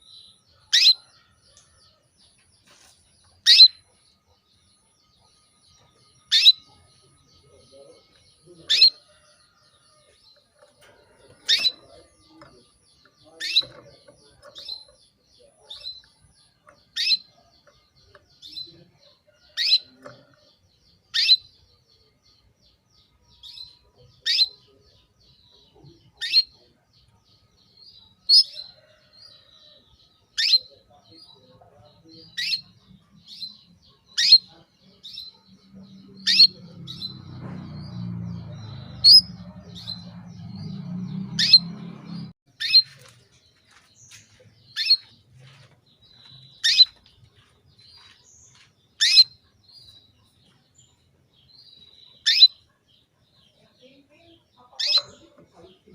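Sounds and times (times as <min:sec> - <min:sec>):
canary chirping: 0:00.0 - 0:55.9.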